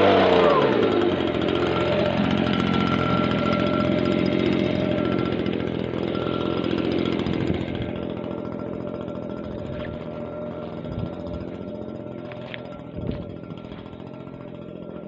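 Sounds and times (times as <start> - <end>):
leaf blower engine running: 0.0 - 15.0.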